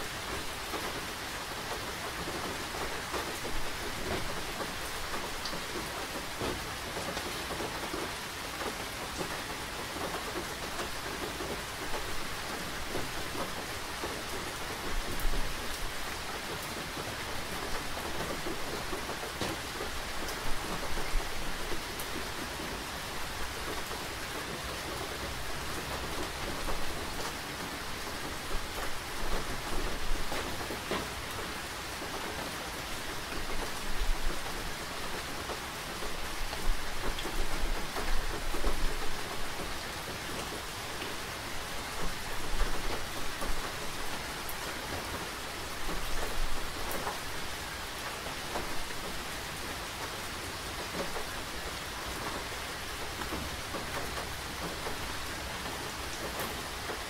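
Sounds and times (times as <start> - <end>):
steady rain falling: 0.0 - 57.0
louder raindrops hitting: 0.1 - 57.0.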